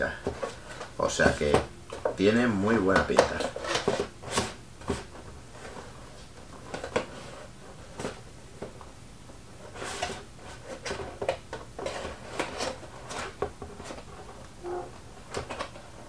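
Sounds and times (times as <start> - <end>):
cardboard rustling and scraping: 0.0 - 16.0.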